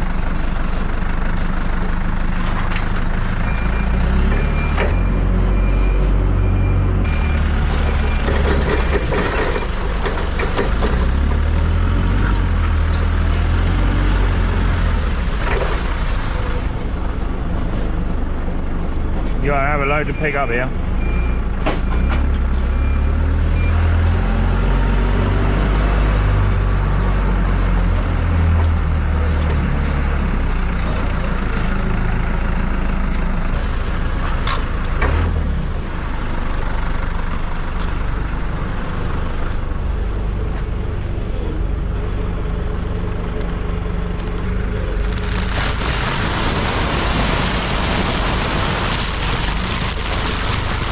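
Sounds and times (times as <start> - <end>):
loader engine rumbling: 0.0 - 50.9.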